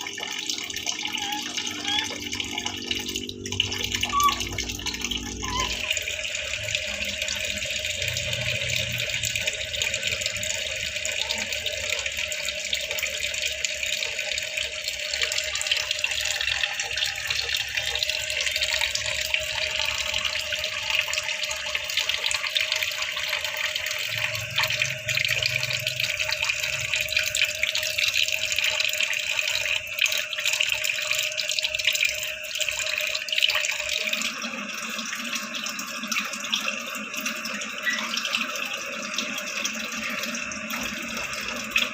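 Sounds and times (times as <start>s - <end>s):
tap water running into sink: 0.0s - 41.9s.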